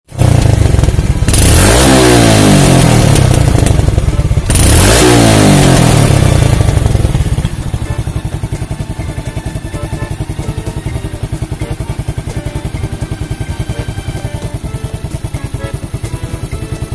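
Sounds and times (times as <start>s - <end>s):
motorcycle engine revving: 0.1s - 16.9s
motorcycle idling putter: 0.1s - 16.9s.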